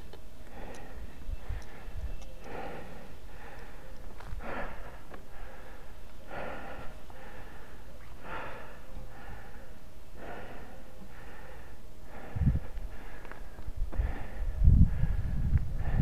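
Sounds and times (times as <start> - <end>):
person breathing heavily: 0.0 - 16.0.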